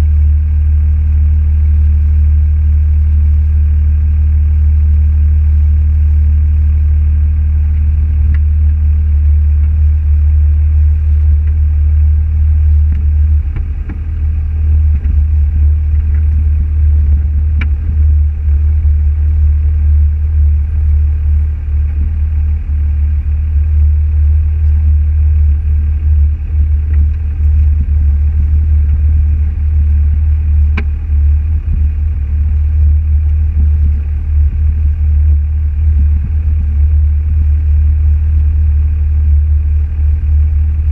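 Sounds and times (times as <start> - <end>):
car engine and road noise: 6.7 - 40.9.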